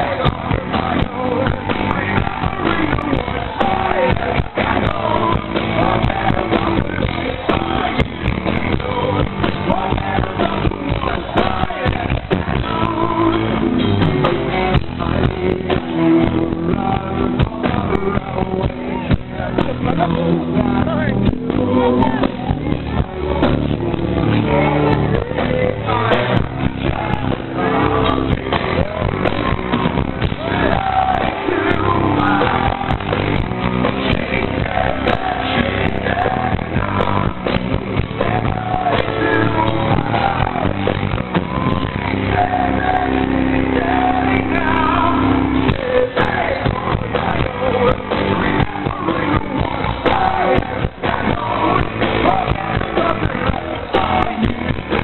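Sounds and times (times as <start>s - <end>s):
live rock band with singer: 0.0s - 55.0s.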